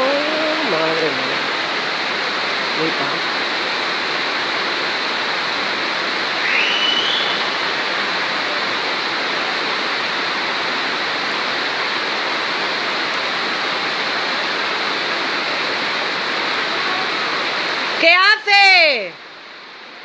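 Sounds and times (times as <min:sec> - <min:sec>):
floodwater rushing: 0:00.0 - 0:20.0
torrential rain: 0:00.0 - 0:20.0.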